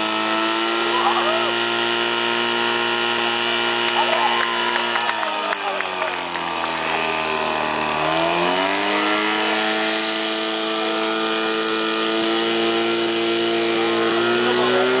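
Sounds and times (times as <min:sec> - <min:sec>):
pump engine running hard: 0:00.0 - 0:15.0.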